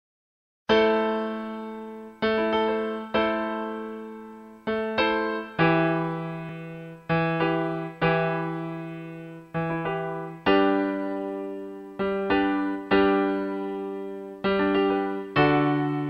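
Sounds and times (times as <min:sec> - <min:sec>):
slow piano chords: 0:00.7 - 0:16.0.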